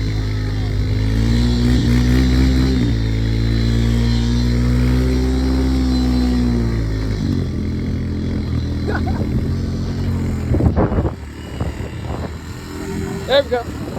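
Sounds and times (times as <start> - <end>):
atv engine running: 0.0 - 13.9.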